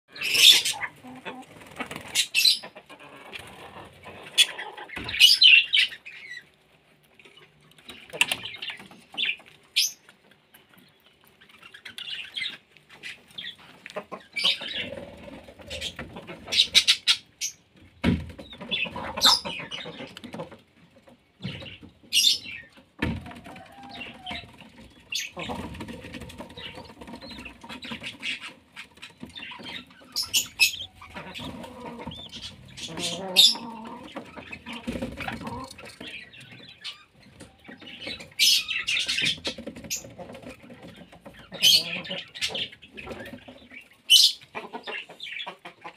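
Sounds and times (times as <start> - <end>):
budgerigars chirping and squawking: 0.1 - 6.6, 7.2 - 45.9.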